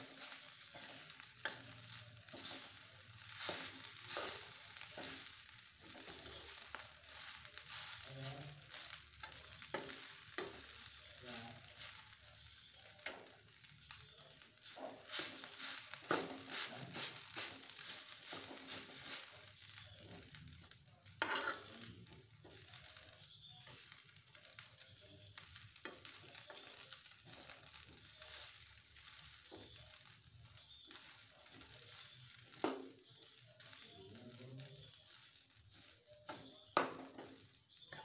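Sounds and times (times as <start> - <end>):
rice sizzling in a wok: 0.0 - 38.0
spatula scraping a pan: 0.0 - 38.0.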